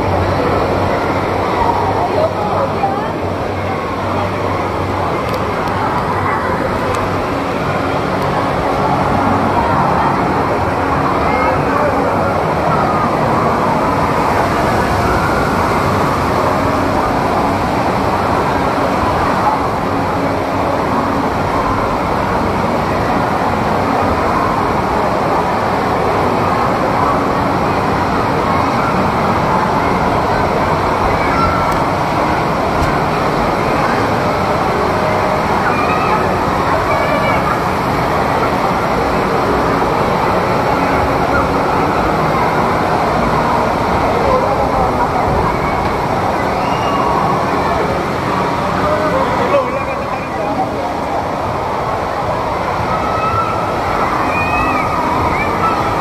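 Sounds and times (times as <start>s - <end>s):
crowd voices: 0.0s - 56.0s
water park rushing ambience: 0.0s - 56.0s.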